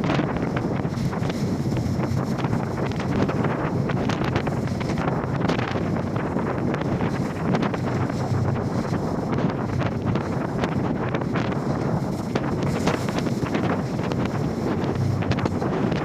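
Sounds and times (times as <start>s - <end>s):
steady low drone: 0.0s - 16.0s
water splashes: 0.0s - 16.0s
wind buffeting microphone: 0.0s - 16.0s.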